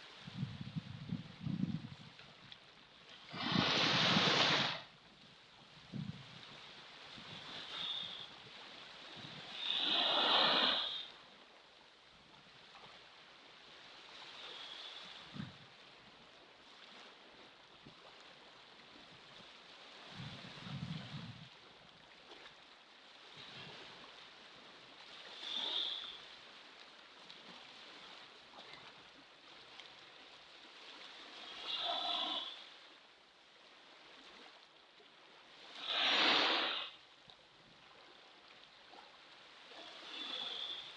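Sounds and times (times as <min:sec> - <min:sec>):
ocean waves: 0:02.2 - 0:05.0, 0:05.9 - 0:40.9.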